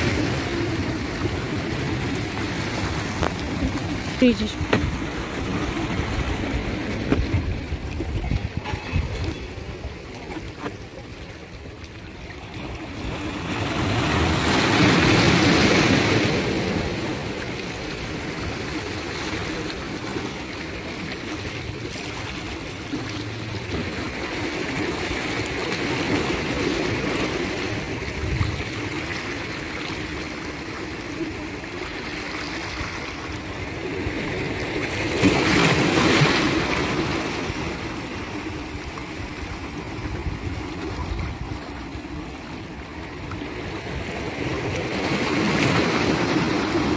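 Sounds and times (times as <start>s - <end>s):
surf washing onto shore: 0.0s - 46.9s.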